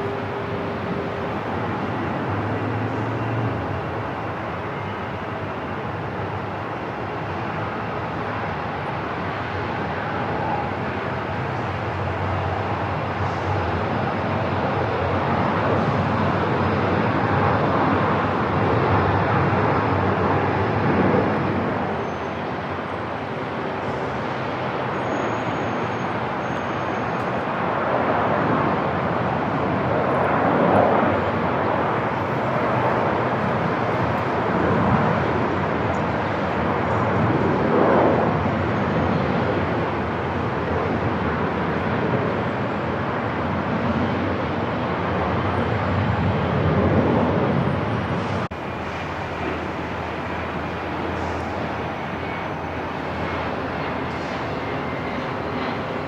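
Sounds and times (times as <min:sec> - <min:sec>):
aircraft noise: 0:00.0 - 0:56.0
airport ambience: 0:00.0 - 0:56.0.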